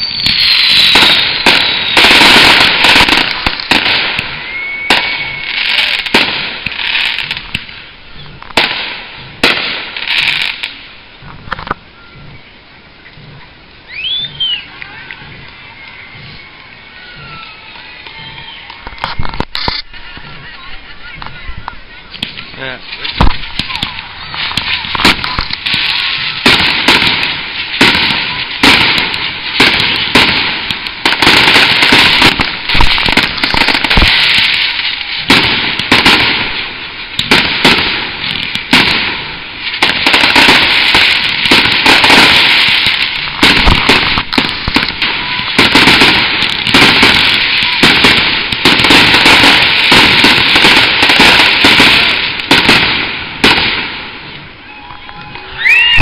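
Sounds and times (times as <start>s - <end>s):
firework bursts with crackle: 0.0s - 56.0s.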